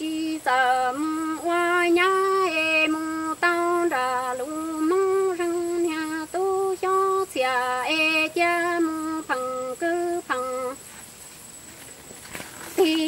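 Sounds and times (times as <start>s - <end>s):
woman singing unaccompanied: 0.0s - 10.9s, 12.6s - 13.0s.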